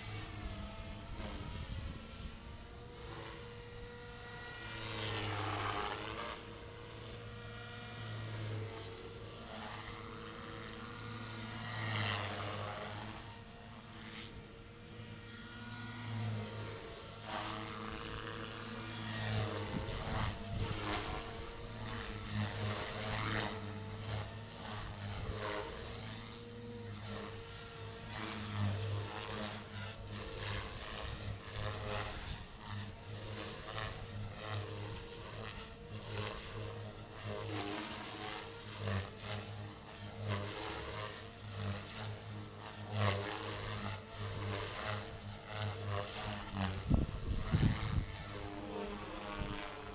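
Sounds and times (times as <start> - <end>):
rc helicopter rotor whine: 0.0 - 49.9.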